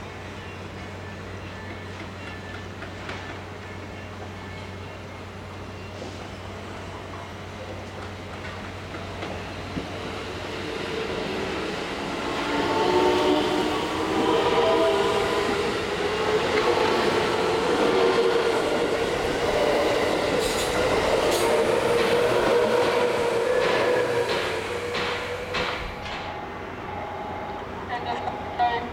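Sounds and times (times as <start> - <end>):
rolling wheel and rail noise: 0.2 - 28.9.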